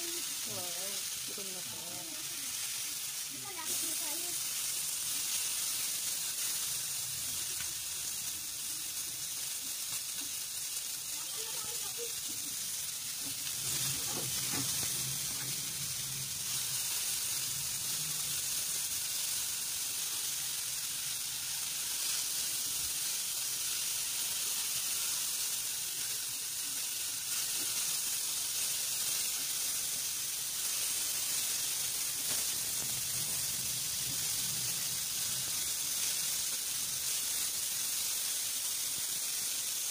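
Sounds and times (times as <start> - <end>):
sausages sizzling in a frying pan: 0.0 - 39.9.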